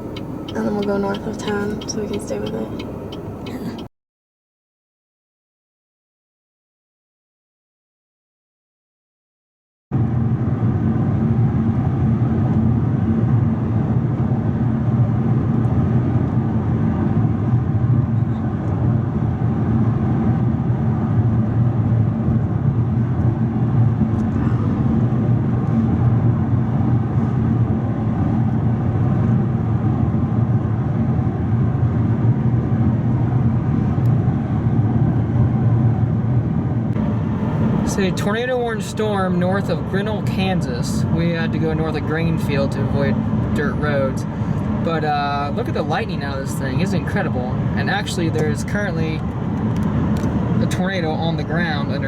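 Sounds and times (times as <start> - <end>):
car cabin road and engine noise: 0.0 - 3.9, 10.0 - 52.0.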